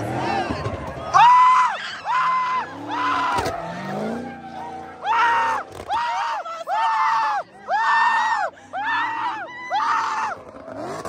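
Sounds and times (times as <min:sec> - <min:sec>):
car tyres squealing: 0:00.0 - 0:11.0.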